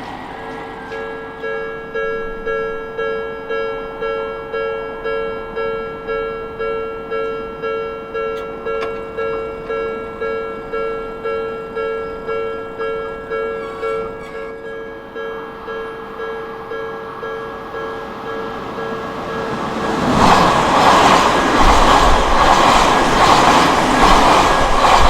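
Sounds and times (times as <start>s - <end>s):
level-crossing warning bell: 0.0s - 25.0s.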